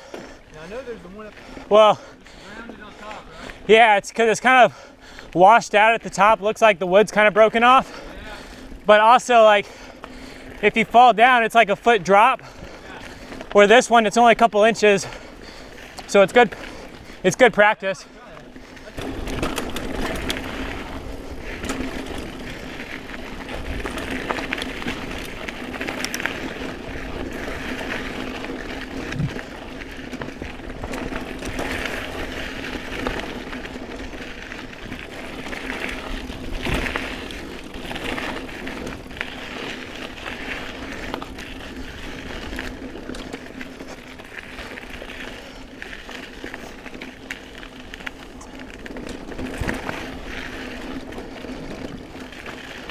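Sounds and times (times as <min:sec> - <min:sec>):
bike tyres rolling on dirt: 0:00.0 - 0:52.9.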